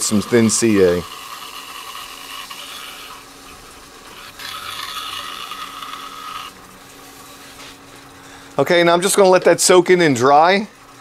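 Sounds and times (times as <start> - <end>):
lathe humming: 0.0 - 9.4.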